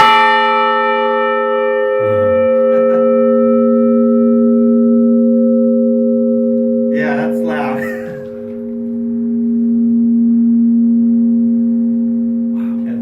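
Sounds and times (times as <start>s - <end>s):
large tower bell ringing: 0.0s - 13.0s.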